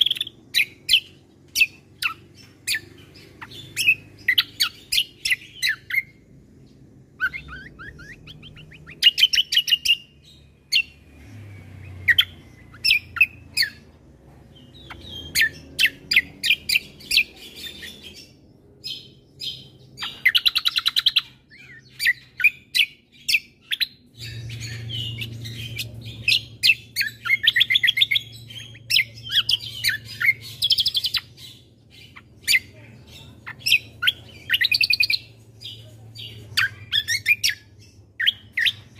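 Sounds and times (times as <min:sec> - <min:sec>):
faint low hum: 0:00.0 - 0:38.9
songbird chirping and trilling: 0:00.0 - 0:38.9.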